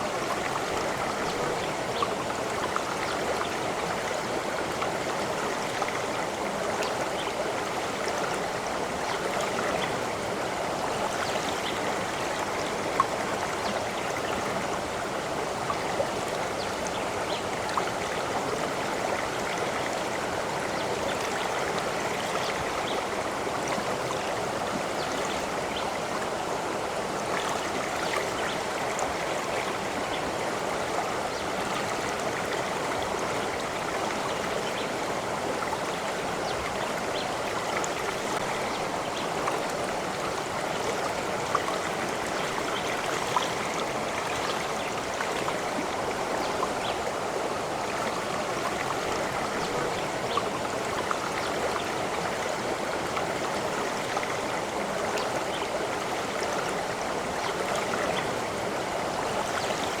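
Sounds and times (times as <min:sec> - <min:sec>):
stream water flowing: 0:00.0 - 1:00.0.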